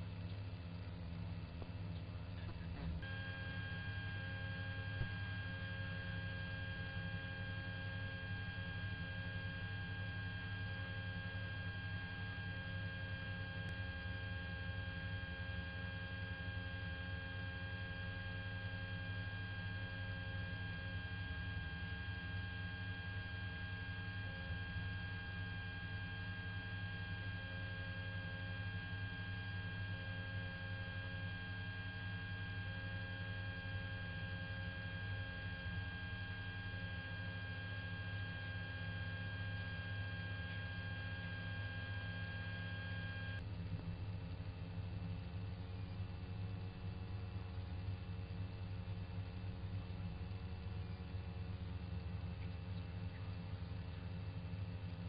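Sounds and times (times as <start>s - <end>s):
helicopter cabin droning hum: 0.0s - 55.0s.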